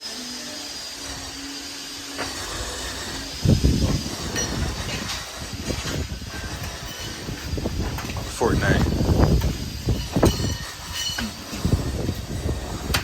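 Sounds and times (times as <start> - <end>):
jackhammer hammering: 0.2 - 13.0.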